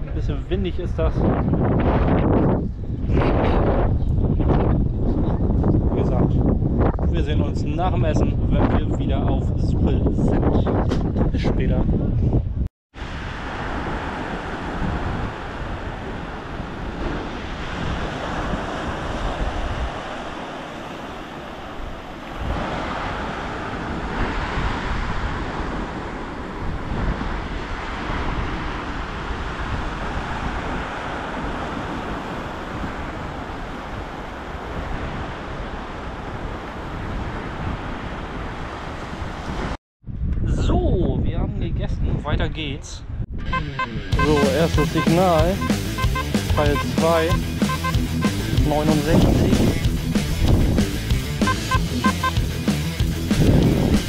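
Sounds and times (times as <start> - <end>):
strong wind buffeting microphone: 0.0 - 44.3, 48.7 - 50.9, 53.4 - 54.0.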